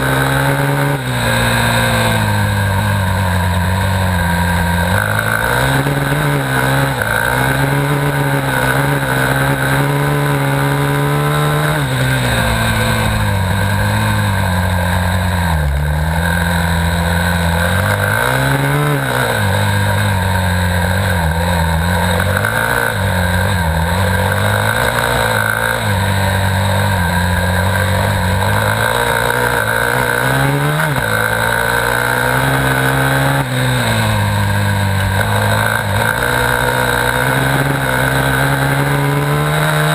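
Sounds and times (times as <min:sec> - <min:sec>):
dirt bike engine racing: 0:00.0 - 0:39.9.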